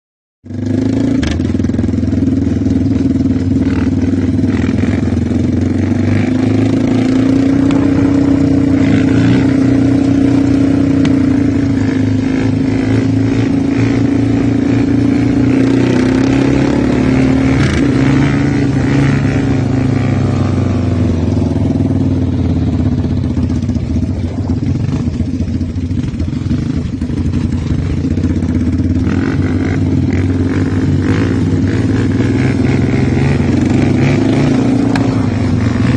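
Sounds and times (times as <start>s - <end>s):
quad bike engine running: 0.5s - 35.9s.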